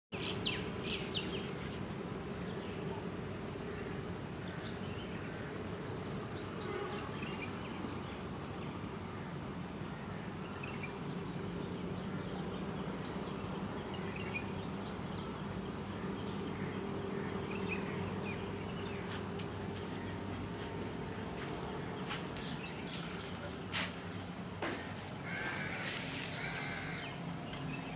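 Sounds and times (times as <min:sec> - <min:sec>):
birds chirping: 0:00.2 - 0:27.9.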